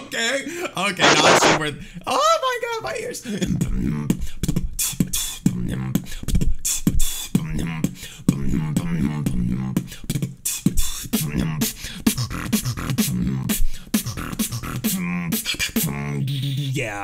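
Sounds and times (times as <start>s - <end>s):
person beatboxing: 1.0s - 1.6s, 3.6s - 17.0s.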